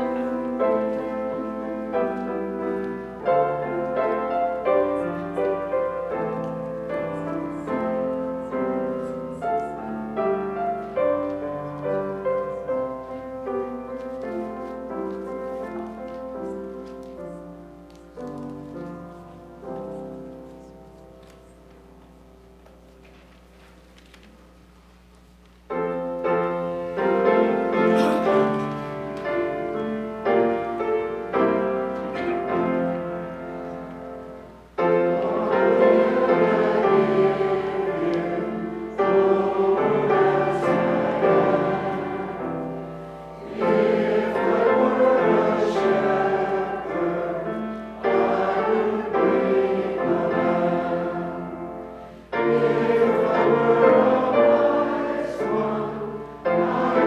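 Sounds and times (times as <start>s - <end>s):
congregation singing a hymn: 0.0s - 22.2s, 25.8s - 57.0s
piano accompaniment: 0.0s - 23.5s, 25.6s - 57.0s.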